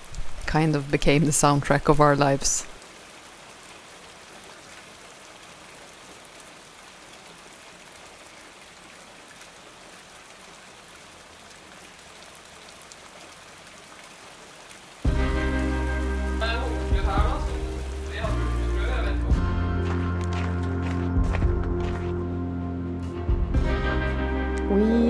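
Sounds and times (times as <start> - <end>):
rain on a roof: 0.0 - 22.2.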